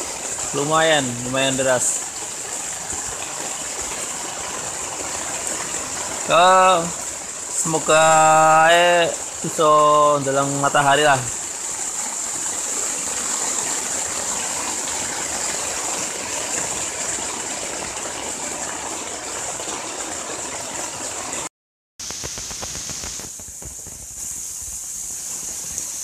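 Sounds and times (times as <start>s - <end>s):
heavy rain on a tent: 0.0s - 26.0s.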